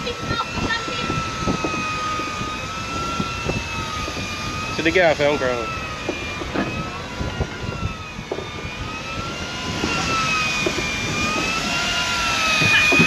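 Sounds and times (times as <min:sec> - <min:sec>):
motor whining: 0:00.0 - 0:13.0
wind rumbling on microphone: 0:00.0 - 0:13.0.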